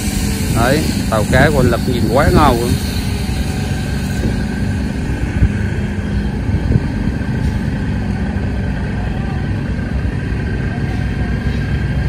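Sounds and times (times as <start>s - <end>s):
engine running low rumble: 0.0s - 12.0s.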